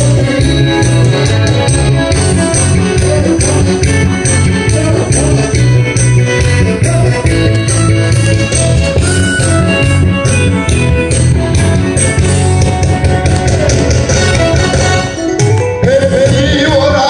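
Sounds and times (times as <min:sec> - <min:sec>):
trot music over loudspeakers: 0:00.0 - 0:17.0.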